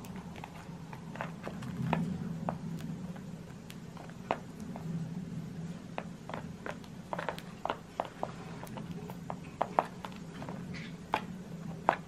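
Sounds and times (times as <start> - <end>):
birds pecking and tapping: 0.0 - 4.9, 5.9 - 12.0.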